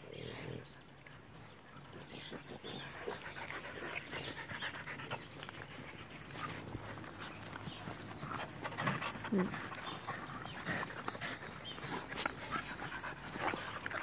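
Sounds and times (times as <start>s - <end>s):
dogs panting: 0.0s - 14.0s.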